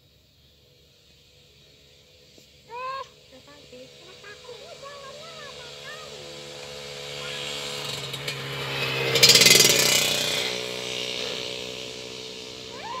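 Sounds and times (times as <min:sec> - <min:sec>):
vehicle passing by: 0:01.2 - 0:13.0.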